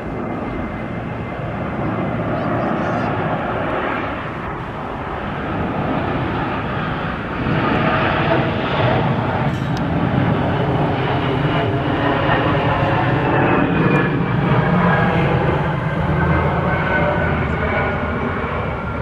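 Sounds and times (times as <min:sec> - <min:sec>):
jet landing and rolling out: 0:00.0 - 0:19.0.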